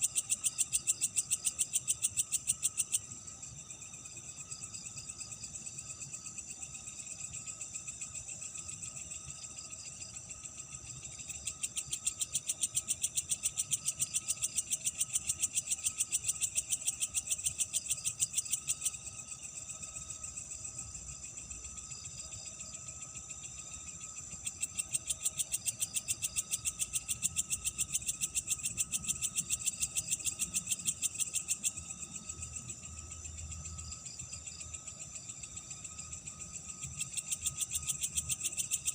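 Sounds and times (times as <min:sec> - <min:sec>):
faint low insect tone: 0:00.0 - 0:38.9
high cricket trill: 0:00.0 - 0:38.9
loud rapidly pulsed insect trill: 0:00.0 - 0:38.9.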